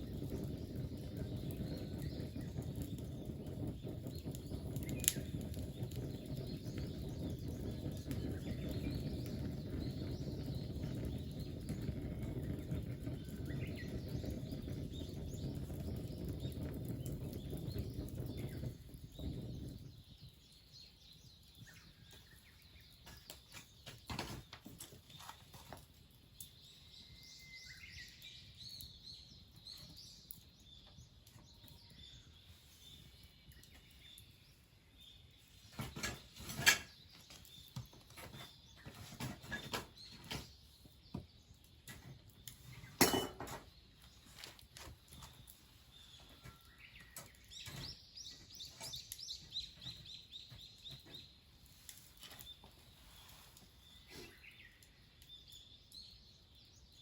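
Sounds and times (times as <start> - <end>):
faint birds chirping: 0.0 - 57.0.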